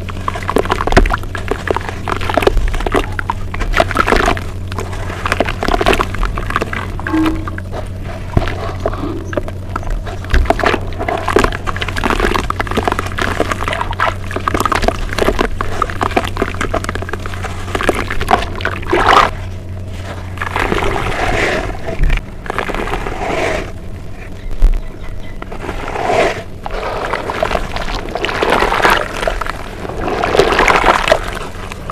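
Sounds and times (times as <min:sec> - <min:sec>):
steady low hum: 0:00.0 - 0:31.9
wet squishy chewing: 0:00.0 - 0:31.9.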